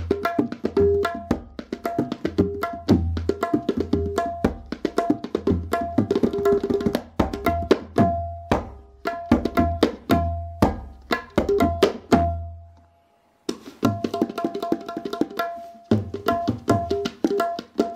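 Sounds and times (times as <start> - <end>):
tabla drumming: 0.0 - 12.6, 13.5 - 17.9.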